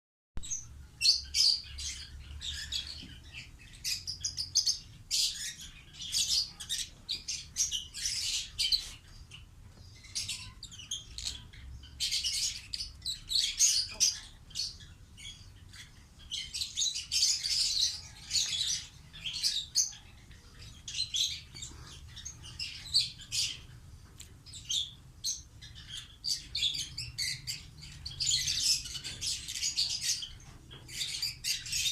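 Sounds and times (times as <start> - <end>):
parrots chirping and chattering: 0.4 - 31.9.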